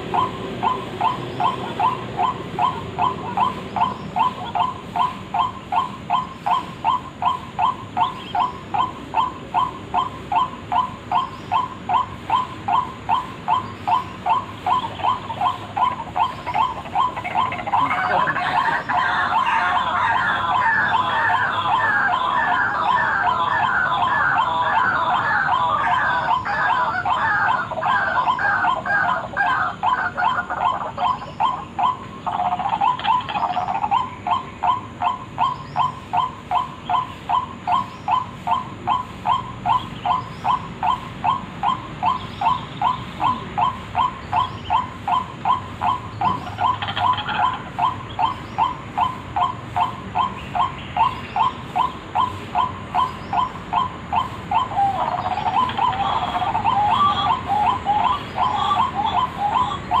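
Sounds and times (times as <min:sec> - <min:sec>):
waterhen calling: 0:00.0 - 1:00.0.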